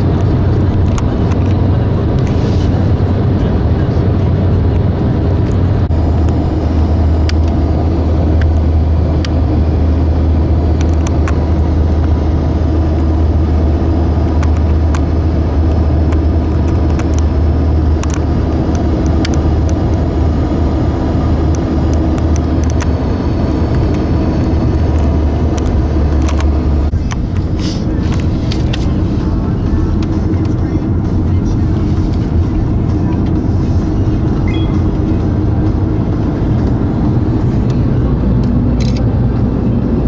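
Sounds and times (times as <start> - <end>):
vehicle low rumble: 0.0 - 40.0.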